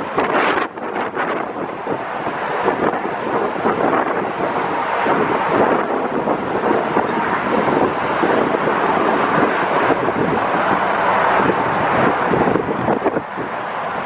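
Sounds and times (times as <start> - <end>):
car driving on road: 0.0 - 14.0
wind buffeting microphone: 0.0 - 14.0.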